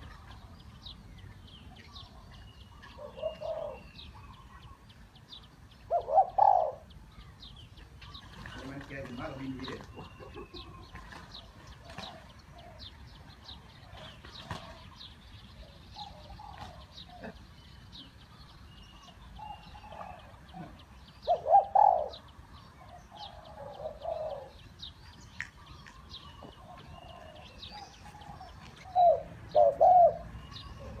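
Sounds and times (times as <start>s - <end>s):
small birds chirping: 0.0s - 31.0s
dove cooing: 1.7s - 4.8s, 5.9s - 7.0s, 8.0s - 13.2s, 13.8s - 17.5s, 19.0s - 31.0s.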